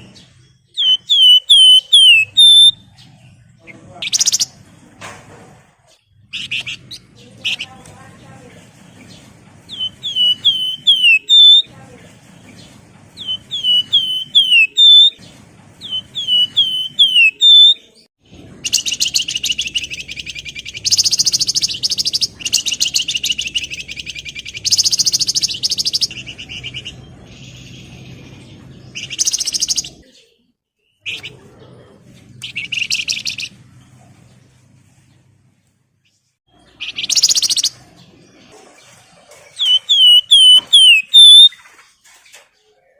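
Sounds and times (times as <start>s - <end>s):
songbird singing: 0.0s - 4.8s, 6.0s - 35.3s, 36.0s - 38.7s, 39.4s - 41.7s.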